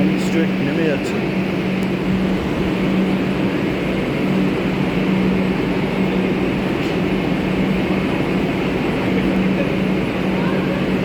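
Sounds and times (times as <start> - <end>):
metro train humming: 0.0 - 11.0.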